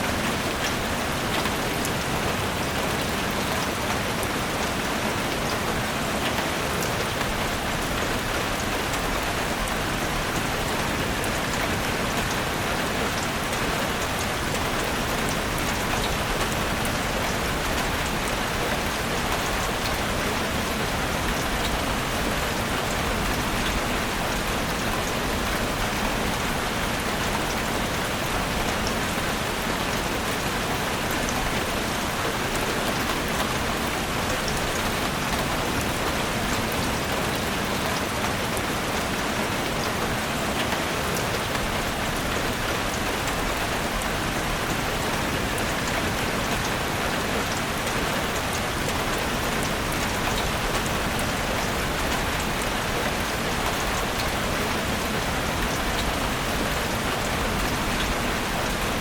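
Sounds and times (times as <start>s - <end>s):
rain falling on forest: 0.0s - 59.0s.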